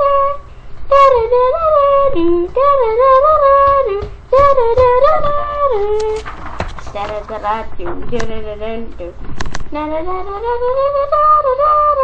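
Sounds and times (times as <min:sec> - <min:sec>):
high voice singing wordlessly: 0:00.0 - 0:12.0.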